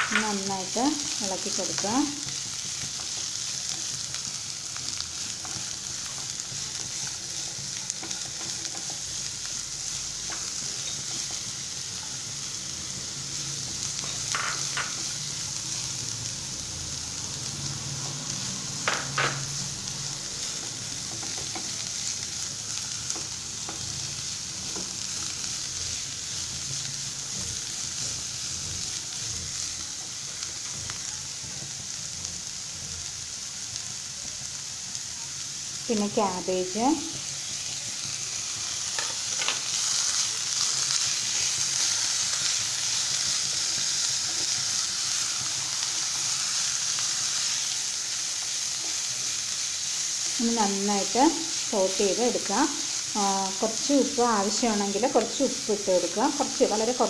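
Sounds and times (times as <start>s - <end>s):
vegetables sizzling in a pan: 0.0s - 57.0s.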